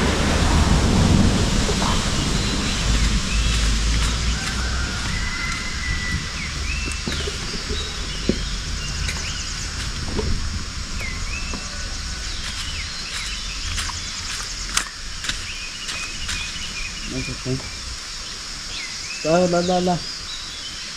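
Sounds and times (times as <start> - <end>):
low rumble: 0.0 - 19.1
steady rain hiss: 0.0 - 20.9
gliding bird calls: 1.1 - 20.9.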